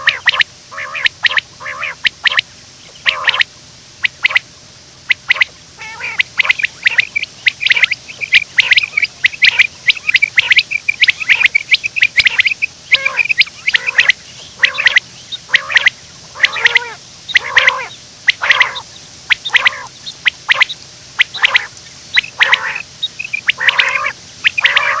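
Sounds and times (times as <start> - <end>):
quail calling: 0.0 - 25.0.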